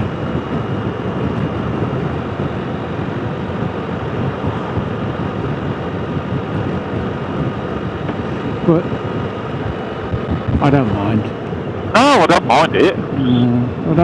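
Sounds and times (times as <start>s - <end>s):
motorcycle engine running: 0.0s - 11.9s
wind and road noise: 0.0s - 14.0s.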